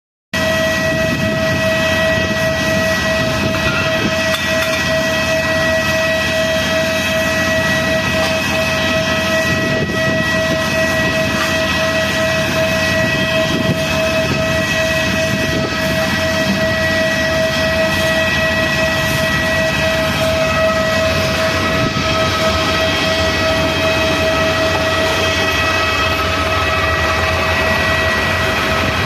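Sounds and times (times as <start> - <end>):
jet engines roaring: 0.4 - 29.0.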